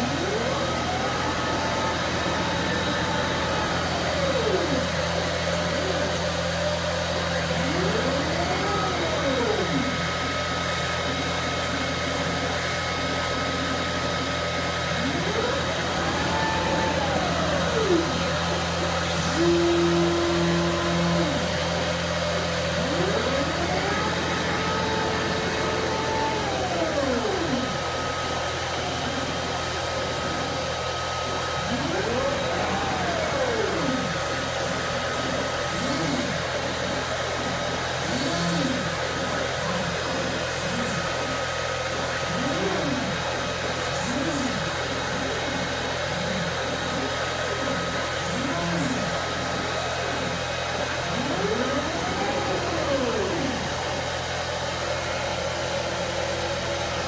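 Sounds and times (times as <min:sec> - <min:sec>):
gantry motors whining: 0:00.0 - 0:57.0
steady blower hum: 0:00.0 - 0:57.0.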